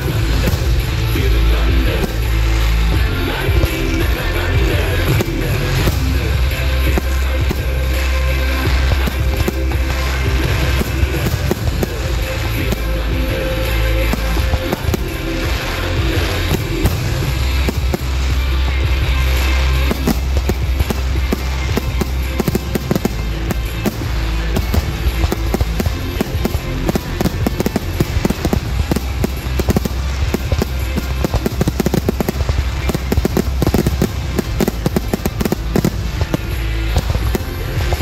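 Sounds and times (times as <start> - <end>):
fireworks launching and bursting: 0.0 - 38.0
music playing: 0.0 - 38.0.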